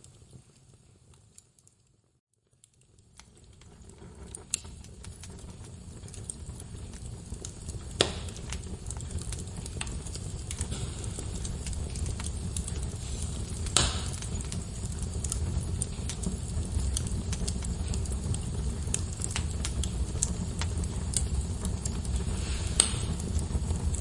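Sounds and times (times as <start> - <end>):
low rumble of burning logs: 0.0 - 24.0
wood fire crackling and popping: 0.0 - 24.0.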